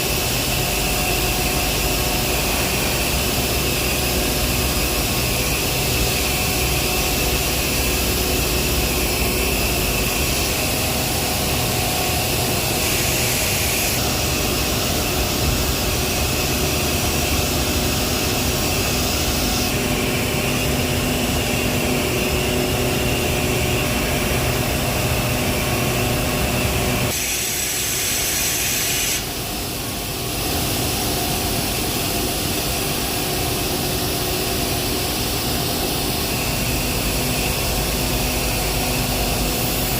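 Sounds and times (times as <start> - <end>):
heavy industrial machinery running: 0.0 - 39.9.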